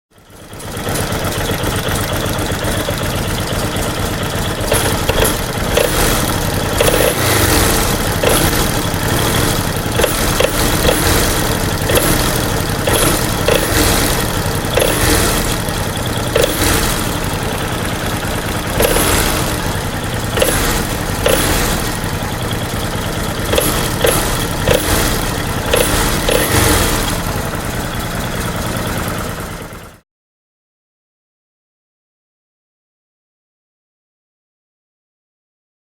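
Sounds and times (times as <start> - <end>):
motorcycle engine running: 0.1 - 30.0
sharp engine knocks: 0.6 - 30.0.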